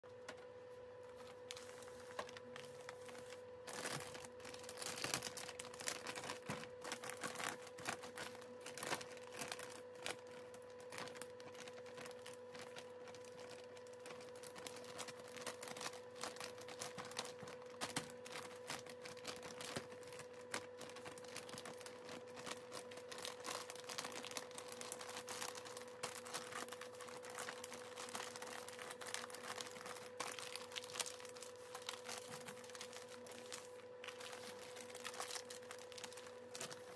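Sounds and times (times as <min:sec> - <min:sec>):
steady hum: 0:00.0 - 0:36.9
plastic grow bags crinkling: 0:00.3 - 0:36.9.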